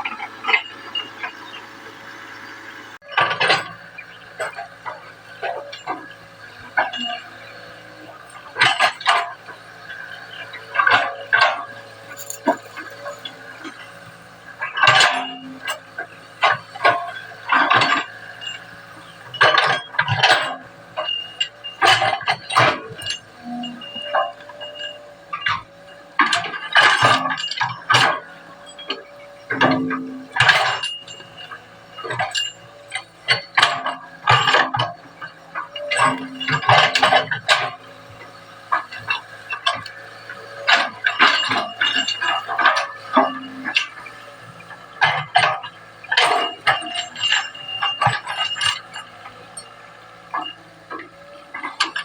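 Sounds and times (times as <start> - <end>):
excavator engine running: 0.0 - 52.0
sharp metallic clanks: 3.1 - 52.0
clattering metallic knocks: 3.2 - 52.0.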